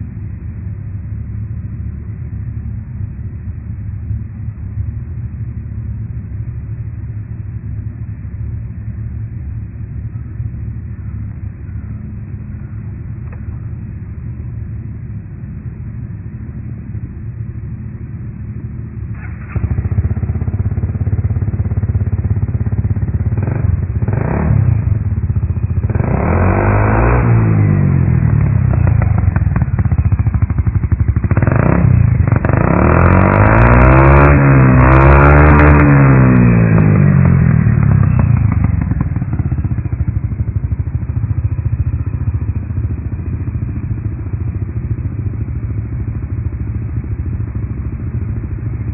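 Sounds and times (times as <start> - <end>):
scooter engine idling and revving: 0.0 - 48.9.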